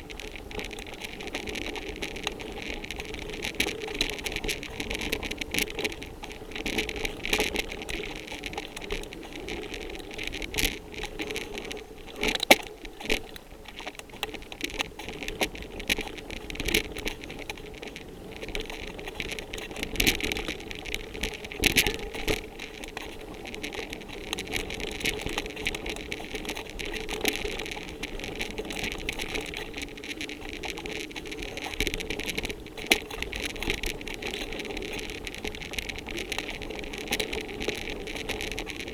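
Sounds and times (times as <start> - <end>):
bike rattling over dirt trail: 0.0 - 38.9
sharp clicks and knocks: 0.0 - 38.9.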